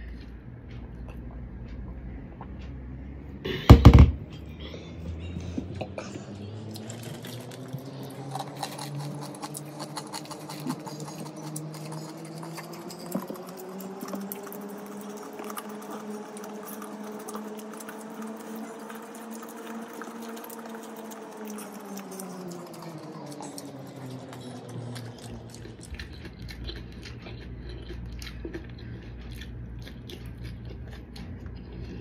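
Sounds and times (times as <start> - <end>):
chewing and lip-smacking: 0.0 - 3.4, 4.3 - 32.0.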